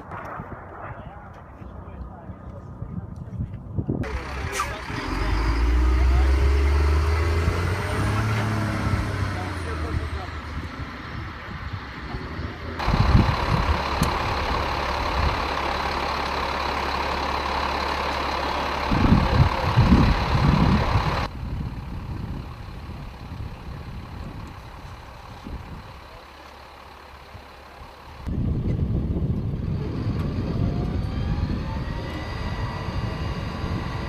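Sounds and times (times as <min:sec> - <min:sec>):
low engine rumbles: 0:00.0 - 0:34.0
truck diesel engine idling: 0:04.0 - 0:34.0.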